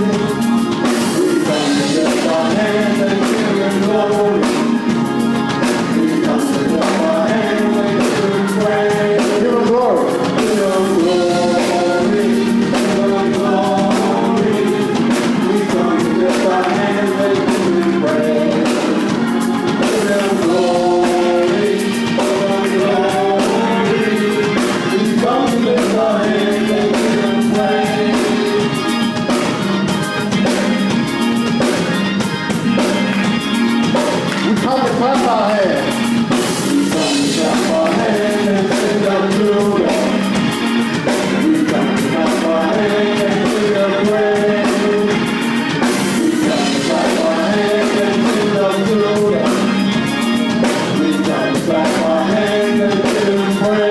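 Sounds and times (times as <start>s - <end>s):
choir singing: 0.0s - 30.6s, 36.3s - 53.9s
band accompaniment: 0.0s - 53.9s
steady drum beat: 0.0s - 53.9s.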